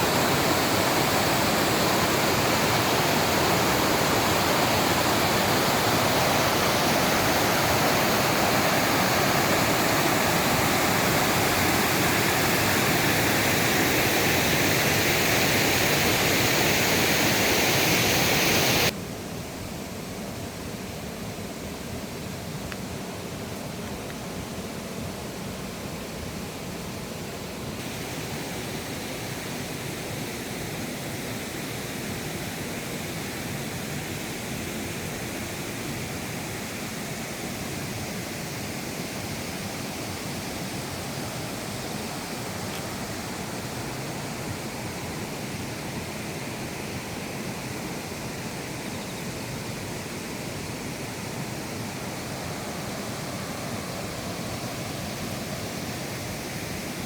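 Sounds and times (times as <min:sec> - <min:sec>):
stream rushing over rocks: 0:00.0 - 0:19.0, 0:22.6 - 0:57.0.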